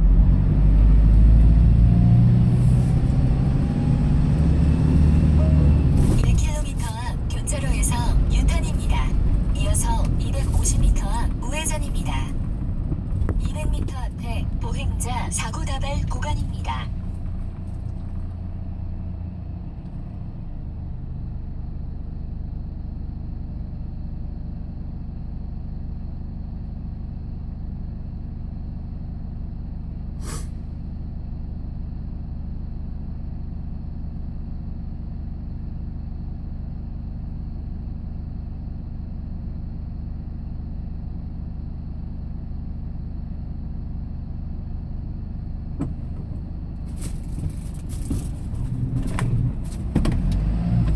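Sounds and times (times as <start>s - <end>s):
engine hum and road noise: 0.0s - 50.9s.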